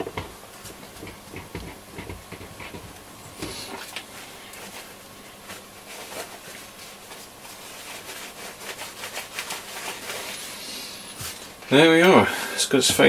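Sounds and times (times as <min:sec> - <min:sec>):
paper towel wiping plastic: 0:00.0 - 0:13.0.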